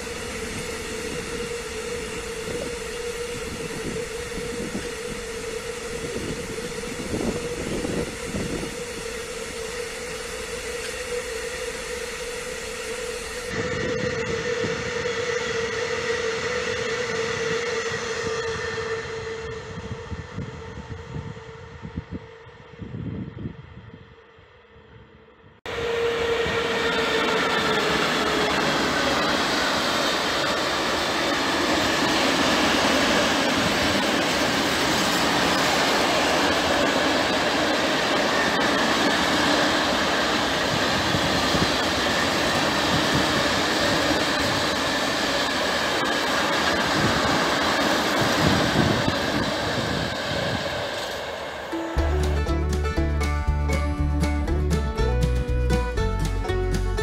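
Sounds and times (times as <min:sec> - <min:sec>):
train wheels rumbling on rail: 0:00.0 - 0:23.9, 0:25.7 - 0:57.0.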